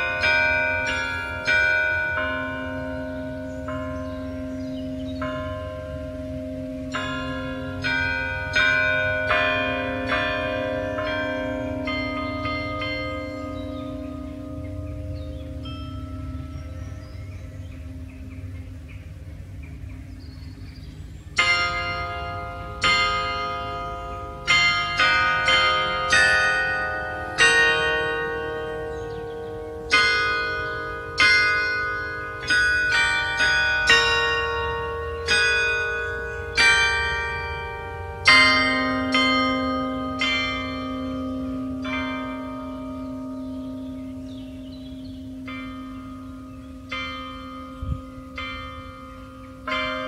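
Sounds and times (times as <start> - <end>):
carillon bells melody: 0.0 - 18.7, 21.4 - 50.0
deep bell humming: 0.0 - 50.0.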